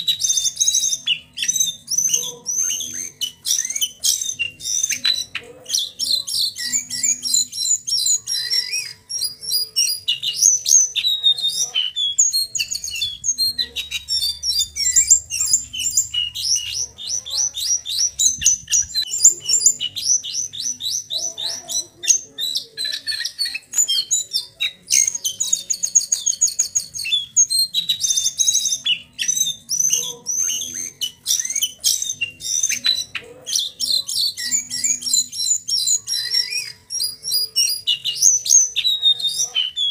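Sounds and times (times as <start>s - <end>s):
bird singing chattering trills: 0.0s - 39.9s.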